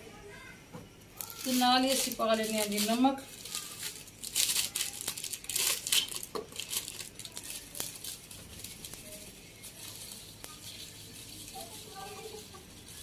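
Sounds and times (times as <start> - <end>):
plastic packet crinkling: 1.2 - 13.0.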